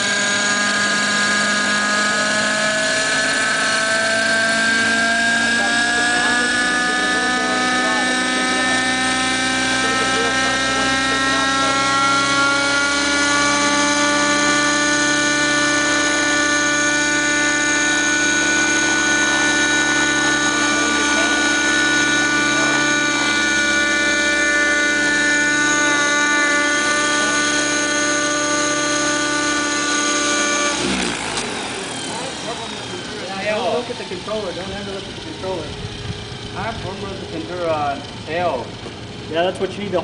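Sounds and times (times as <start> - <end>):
model helicopter engine whine: 0.0 - 40.0.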